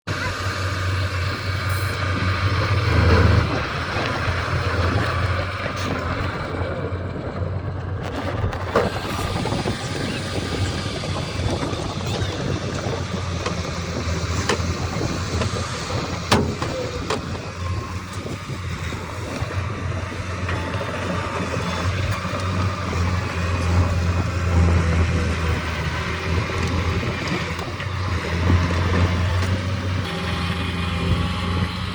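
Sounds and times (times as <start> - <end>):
heavy machinery engine rumbling: 0.0 - 31.9.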